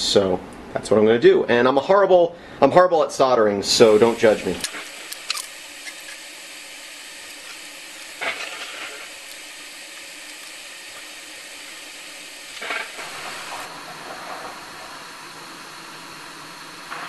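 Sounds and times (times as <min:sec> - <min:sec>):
air conditioner hissing: 0:00.0 - 0:17.0.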